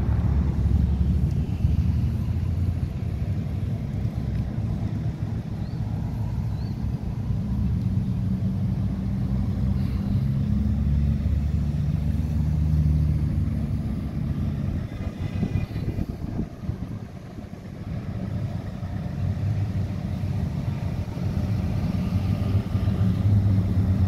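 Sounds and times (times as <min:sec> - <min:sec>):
cars driving past slowly: 0:00.0 - 0:24.0.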